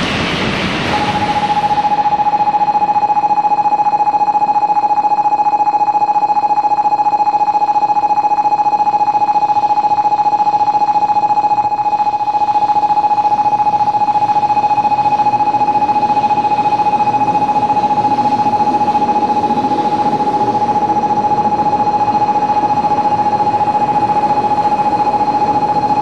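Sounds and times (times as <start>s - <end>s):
electronic warning bell: 0.9s - 26.0s.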